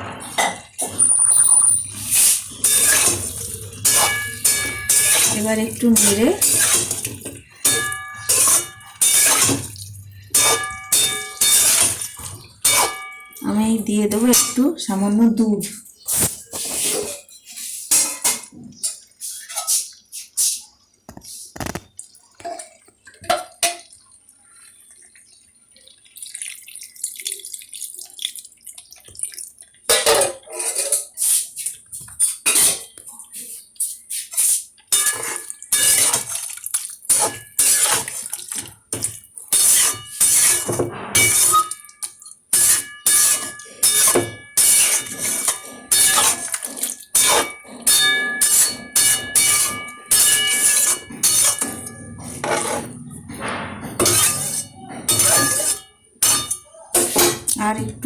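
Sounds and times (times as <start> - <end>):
metal spatula scraping a pan: 0.0 - 15.0, 15.6 - 20.6, 29.9 - 58.0.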